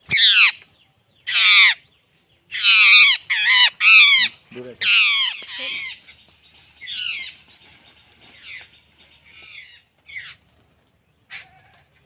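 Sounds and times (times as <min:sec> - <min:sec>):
bird harsh calls: 0:00.0 - 0:10.5.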